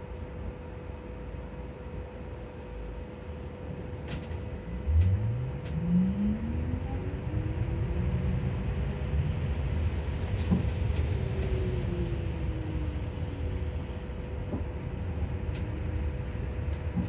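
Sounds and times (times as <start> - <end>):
low road rumble: 2.5 - 17.0.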